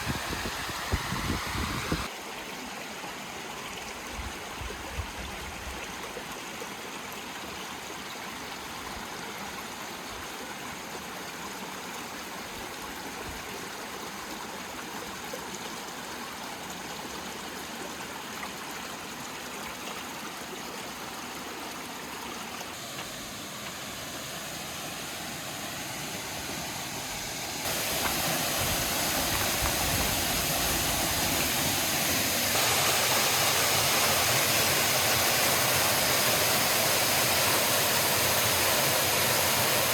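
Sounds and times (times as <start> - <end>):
creek water rushing: 0.0 - 4.7, 5.3 - 39.9.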